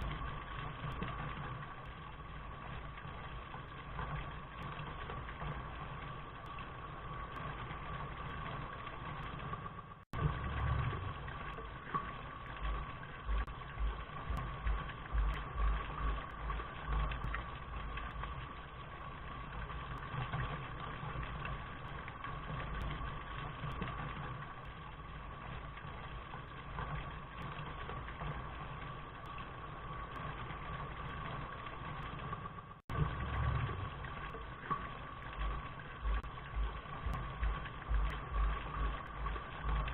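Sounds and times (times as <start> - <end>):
low uneven rumble: 0.0 - 39.9
steady rain: 0.0 - 39.9.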